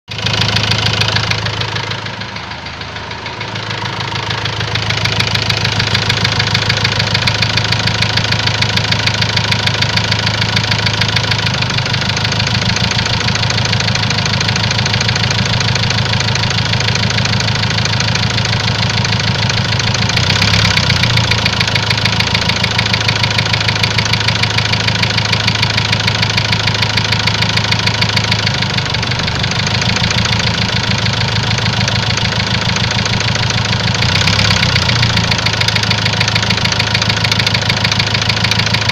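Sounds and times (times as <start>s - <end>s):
van engine idling with knock: 0.1s - 38.9s.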